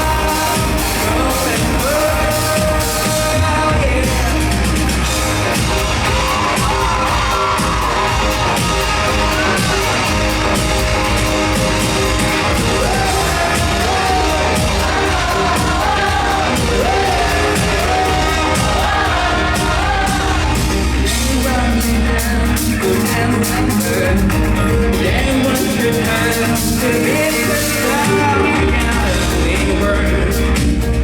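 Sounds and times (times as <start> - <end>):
lead vocal singing: 0.0 - 31.0
live rock band playing: 0.0 - 31.0.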